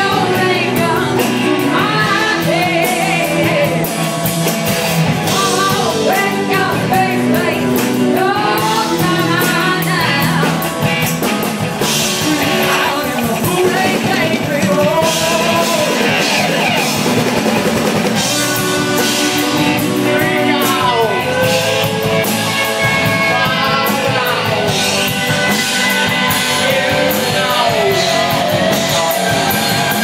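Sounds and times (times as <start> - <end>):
person singing: 0.0 - 4.2, 5.2 - 10.8, 11.8 - 17.4, 18.1 - 30.0
drum kit: 0.0 - 30.0
guitar: 0.0 - 30.0.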